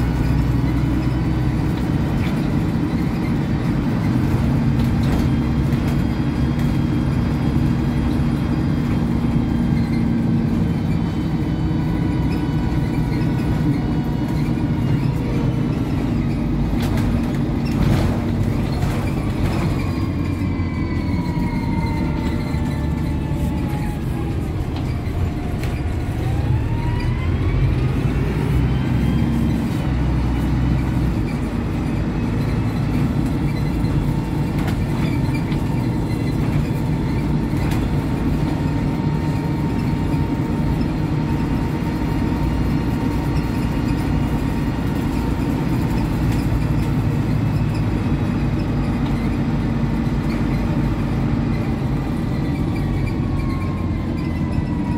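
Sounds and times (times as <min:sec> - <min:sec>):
bus engine rumble: 0:00.0 - 0:54.9
drivetrain whine: 0:00.0 - 0:54.9.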